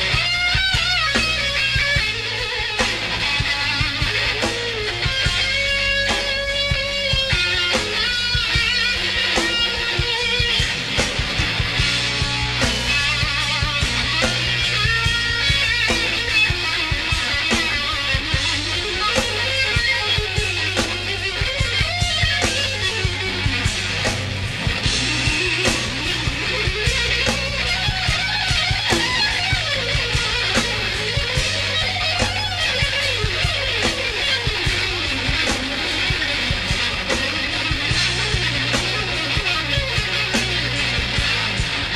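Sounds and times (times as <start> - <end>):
bass notes: 0.0 - 41.9
drums: 0.0 - 41.9
electric guitar lead: 0.0 - 41.9.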